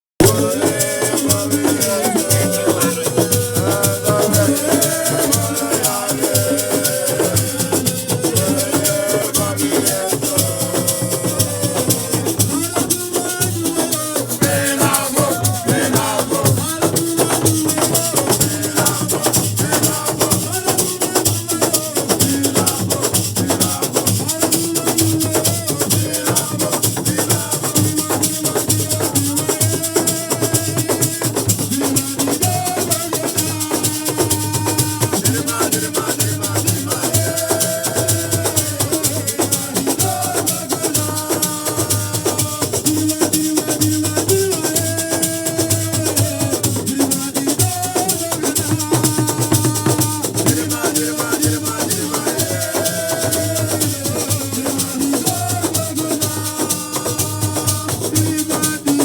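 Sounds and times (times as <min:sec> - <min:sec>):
music with shaker rhythm: 0:00.2 - 0:59.0.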